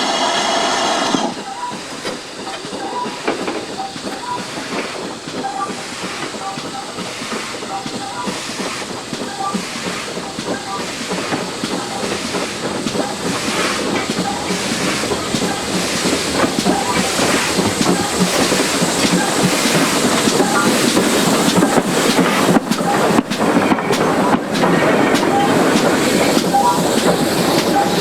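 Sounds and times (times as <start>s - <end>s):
train wheels clickety-clack on rails: 0.0s - 28.0s.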